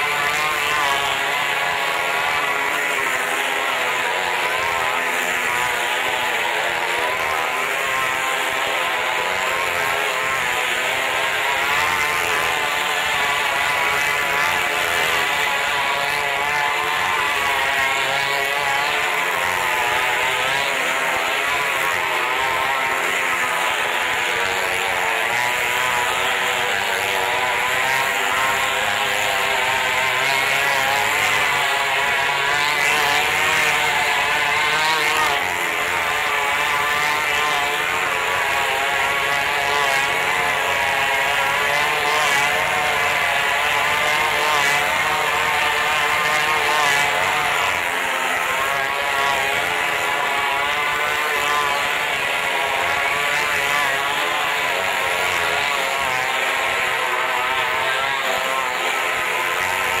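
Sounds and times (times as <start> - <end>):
motorcycle engines running hard: 0.0 - 59.2.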